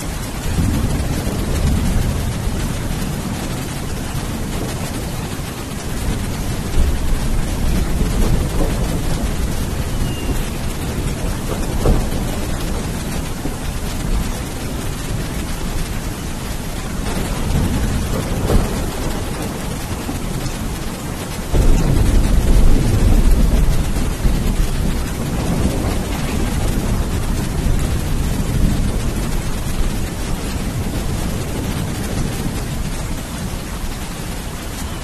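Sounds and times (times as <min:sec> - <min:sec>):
heavy rain: 0:00.0 - 0:35.0
rolling thunder: 0:00.0 - 0:35.0.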